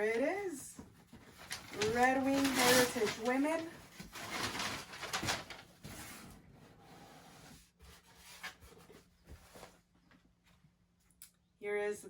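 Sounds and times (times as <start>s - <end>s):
cardboard and paper rustling: 0.0s - 9.9s.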